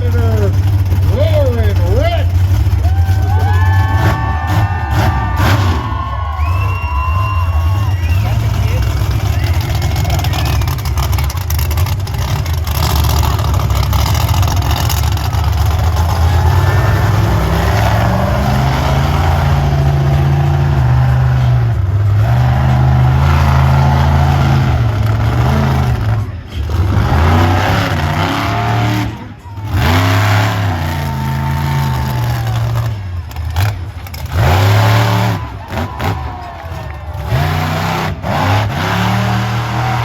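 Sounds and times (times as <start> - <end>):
monster truck engine revving: 0.0 - 40.0.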